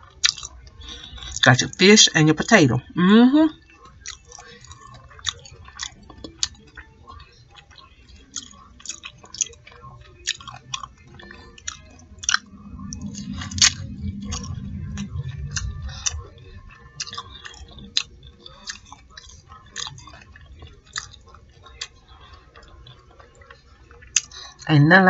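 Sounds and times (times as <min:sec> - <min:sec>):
chewing fried food: 0:00.0 - 0:02.6, 0:03.5 - 0:24.7.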